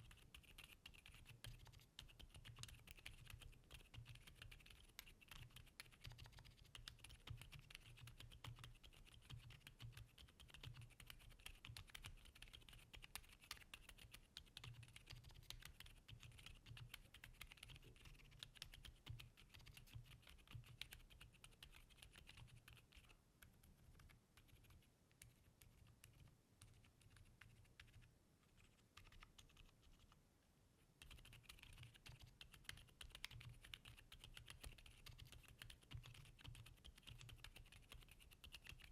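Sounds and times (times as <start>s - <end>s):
soft muted keyboard keystrokes: 0.0s - 30.2s, 31.0s - 38.9s.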